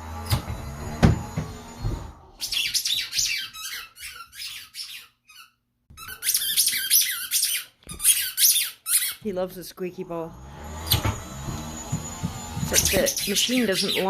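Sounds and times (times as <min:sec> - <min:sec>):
squeaky ball squeaking: 0:00.2 - 0:09.5, 0:10.8 - 0:14.0.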